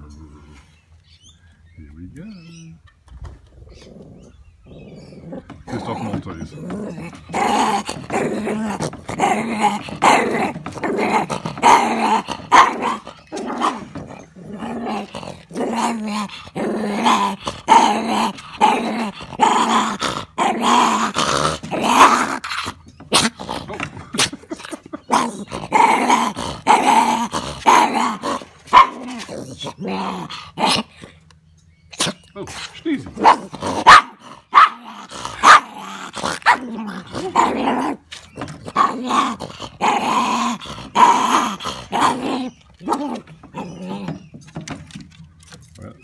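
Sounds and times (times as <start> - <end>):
puppy growling: 3.4 - 31.3, 31.9 - 45.0.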